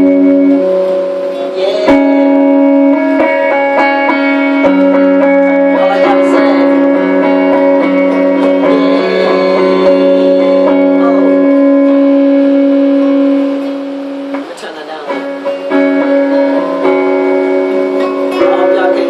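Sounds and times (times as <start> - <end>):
guitar chords through effects: 0.0 - 19.0.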